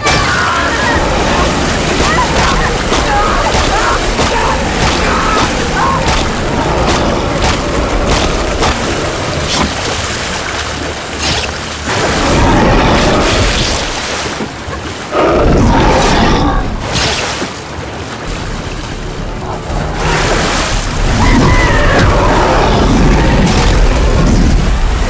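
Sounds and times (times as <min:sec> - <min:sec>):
water splashing: 0:00.0 - 0:25.0.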